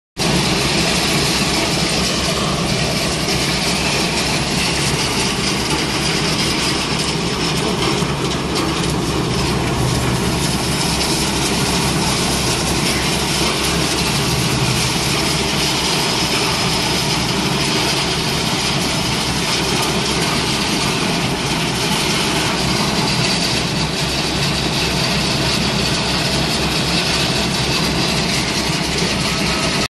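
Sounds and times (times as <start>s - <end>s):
engine drone: 0.2s - 29.9s
mechanical machinery noise: 0.2s - 29.9s.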